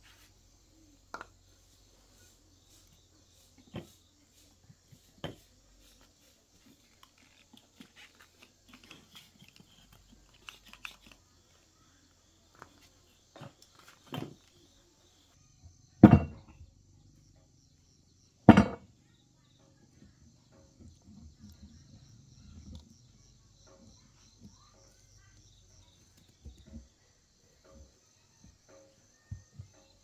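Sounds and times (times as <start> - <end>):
faint knocking and handling: 0.0 - 16.9, 18.4 - 30.0
crickets chirring: 0.1 - 30.0.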